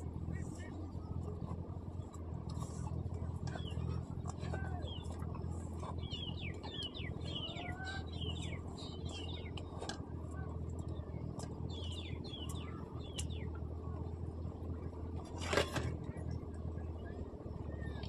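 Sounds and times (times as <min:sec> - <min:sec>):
steady low hum: 0:00.0 - 0:18.0
small birds chirping: 0:00.3 - 0:15.3.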